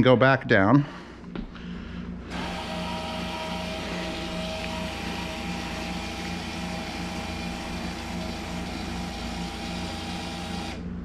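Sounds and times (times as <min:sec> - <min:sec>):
electric actuator motor hum: 0:02.0 - 0:11.0.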